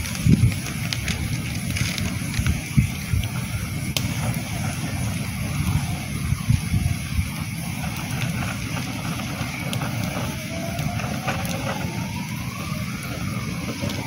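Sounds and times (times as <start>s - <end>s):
campfire crackling: 0.0s - 14.0s
fire low rumble: 0.0s - 14.0s.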